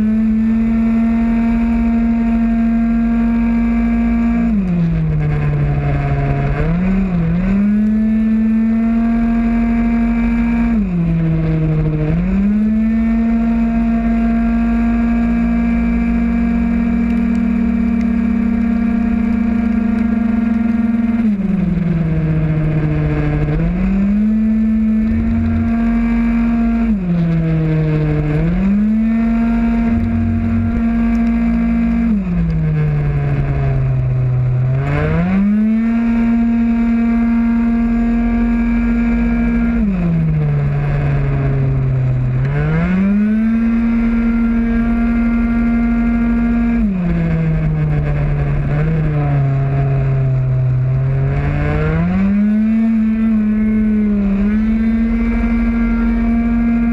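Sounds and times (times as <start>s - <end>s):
scooter engine at full throttle: 0.0s - 56.9s.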